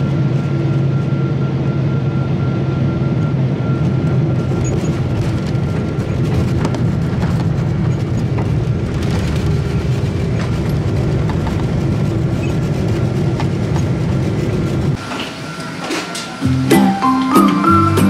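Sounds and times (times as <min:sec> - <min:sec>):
airliner rumbling on runway: 0:00.0 - 0:18.0.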